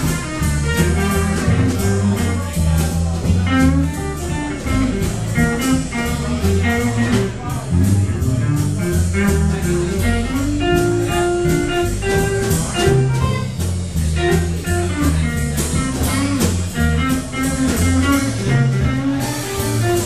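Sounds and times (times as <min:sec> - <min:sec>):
drum kit beat: 0:00.0 - 0:20.0
upright bass line: 0:00.0 - 0:20.0
electric guitar: 0:03.3 - 0:20.0.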